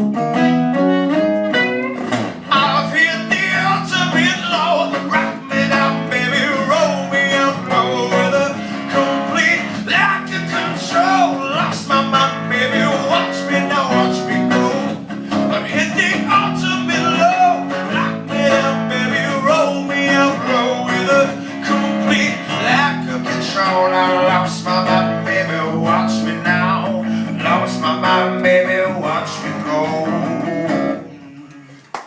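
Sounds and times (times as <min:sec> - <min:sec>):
acoustic guitars strumming: 0:00.0 - 0:31.8.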